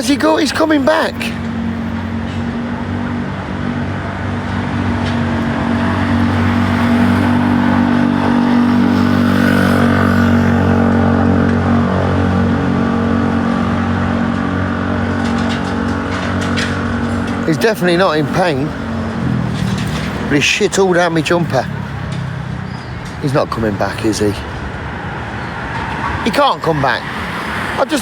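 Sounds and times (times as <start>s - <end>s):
loud engine drone: 0.0s - 28.0s.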